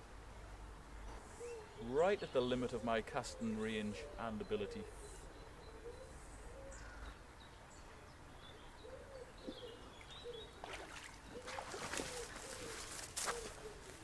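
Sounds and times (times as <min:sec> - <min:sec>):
faint bird chirps: 0:01.3 - 0:13.9.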